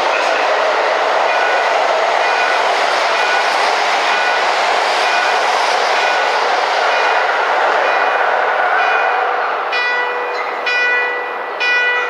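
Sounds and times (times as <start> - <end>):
subway train rushing past: 0.0 - 12.0.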